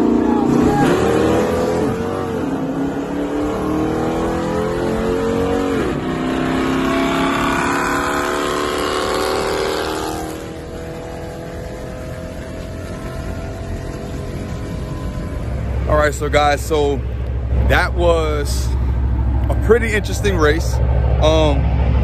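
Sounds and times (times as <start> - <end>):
car engine at full throttle: 0.0 - 22.0.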